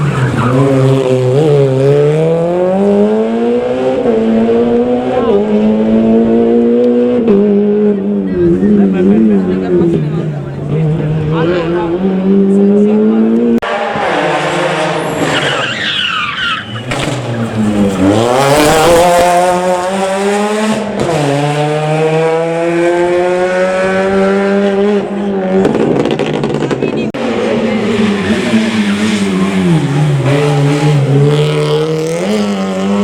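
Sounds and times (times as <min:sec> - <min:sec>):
rally car engine at full throttle: 0:00.0 - 0:33.0.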